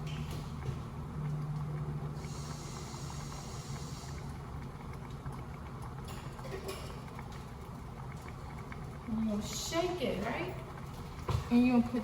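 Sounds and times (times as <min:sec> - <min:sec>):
steady low hum: 0:00.0 - 0:12.0
tap water running into a jar: 0:00.0 - 0:12.0.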